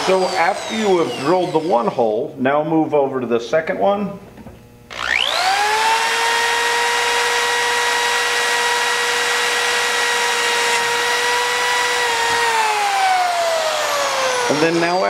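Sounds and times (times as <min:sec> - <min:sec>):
electric drill whining: 0:00.0 - 0:02.0, 0:04.9 - 0:15.0.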